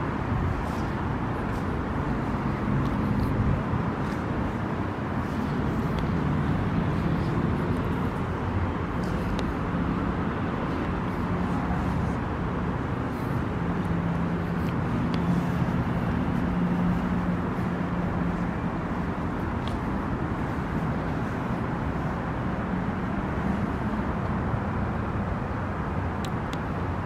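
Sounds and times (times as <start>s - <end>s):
low engine hum: 0.0s - 27.0s
rumble of road traffic: 0.0s - 27.0s.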